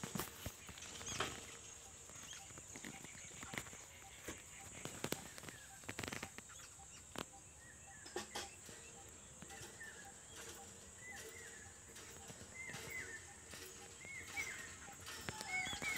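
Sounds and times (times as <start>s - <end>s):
bird chirping: 0.0s - 15.9s
steady high-pitched drone: 0.2s - 15.9s.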